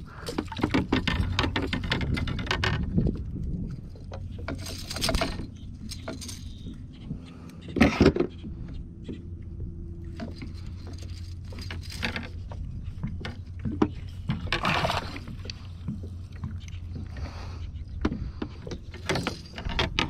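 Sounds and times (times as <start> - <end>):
fishing gear clicking and rattling: 0.0 - 20.0.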